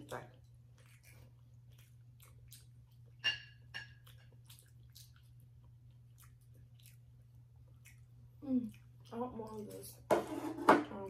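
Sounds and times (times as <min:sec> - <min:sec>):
low steady hum: 0:00.0 - 0:11.0
crunchy chewing: 0:00.1 - 0:10.0.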